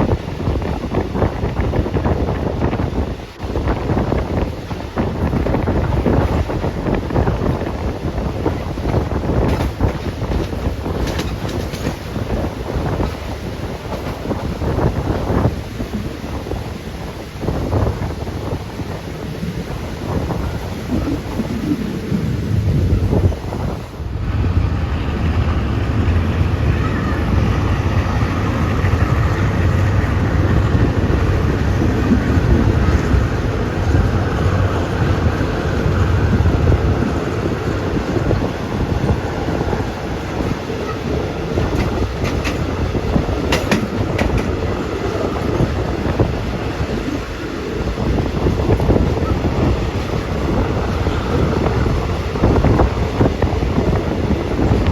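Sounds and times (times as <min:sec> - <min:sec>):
train rumbling on track: 0:00.0 - 0:54.9.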